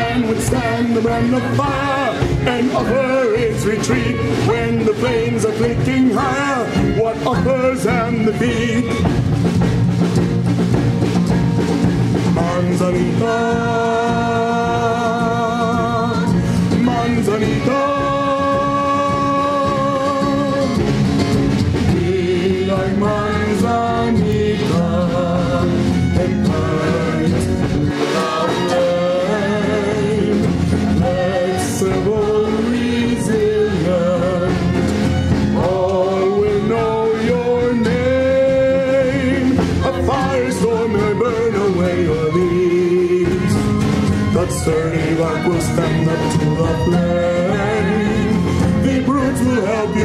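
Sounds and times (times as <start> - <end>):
man singing with vibrato: 0.0 - 9.3, 12.2 - 21.0, 21.8 - 50.0
live band accompaniment: 0.0 - 50.0.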